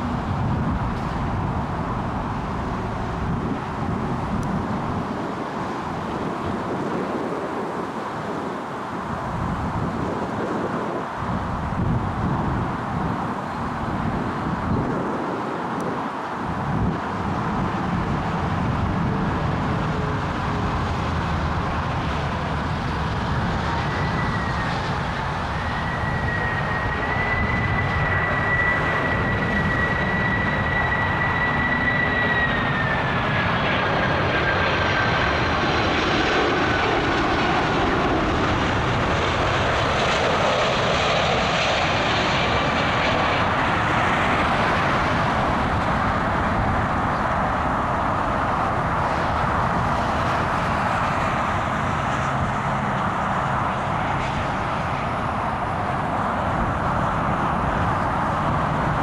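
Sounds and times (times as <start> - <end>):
jet engine roar: 0.0 - 59.0
jet engine whine: 0.0 - 59.0.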